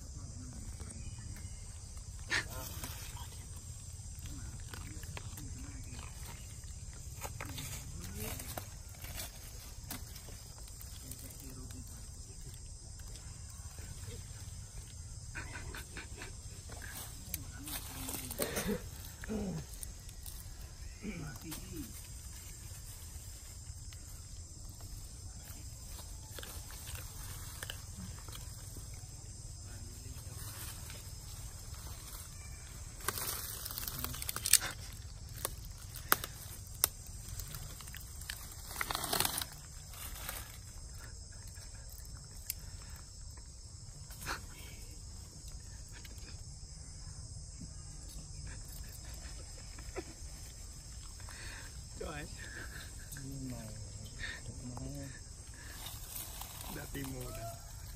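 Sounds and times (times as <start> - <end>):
insect drone: 0.0 - 57.9
monkeys rustling: 1.6 - 46.7, 48.2 - 57.9.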